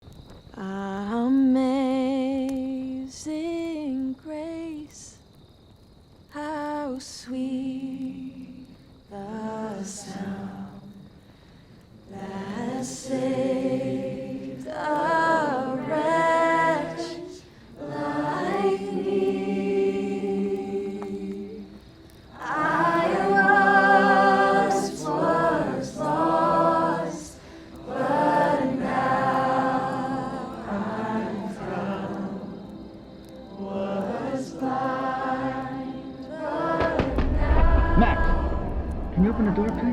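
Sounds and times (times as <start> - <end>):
choir singing wordless harmonies: 6.4 - 39.9.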